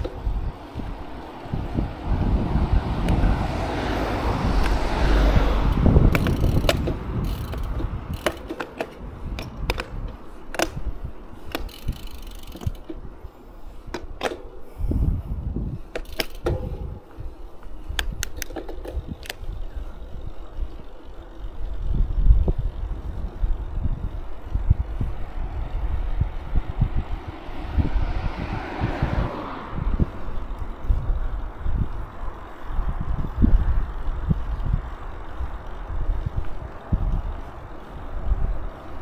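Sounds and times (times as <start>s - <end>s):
bicycle clicking and rattling: 0.0s - 39.0s
wind rumble on microphone: 0.0s - 39.0s.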